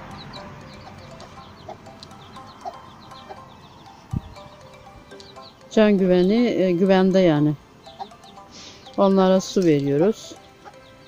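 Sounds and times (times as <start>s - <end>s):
chicks peeping: 0.0s - 11.0s
soft background music: 0.0s - 11.0s.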